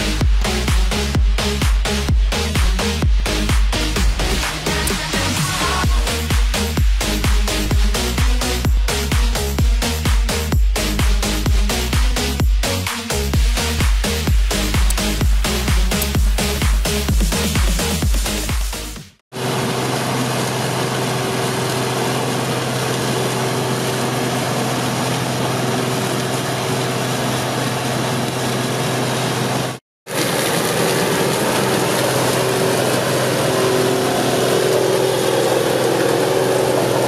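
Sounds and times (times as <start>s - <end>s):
combine harvester drone: 0.0s - 12.4s, 19.4s - 37.0s.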